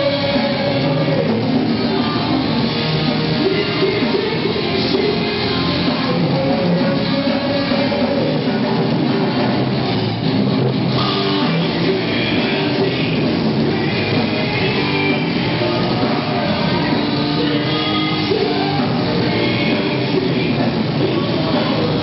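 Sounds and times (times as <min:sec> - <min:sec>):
bass guitar: 0:00.0 - 0:22.0
distorted electric guitars: 0:00.0 - 0:22.0
drum kit: 0:00.0 - 0:22.0.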